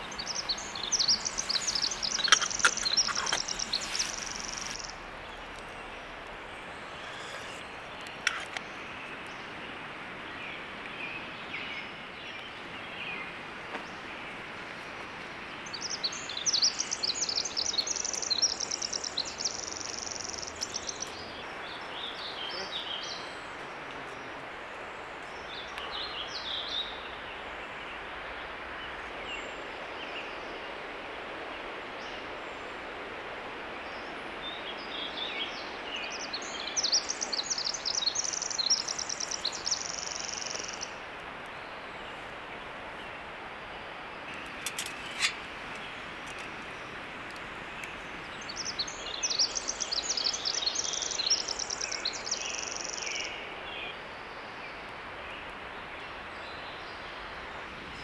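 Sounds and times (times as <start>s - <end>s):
songbirds trilling: 0.0s - 23.4s, 35.0s - 58.0s
steady outdoor hiss: 0.0s - 58.0s.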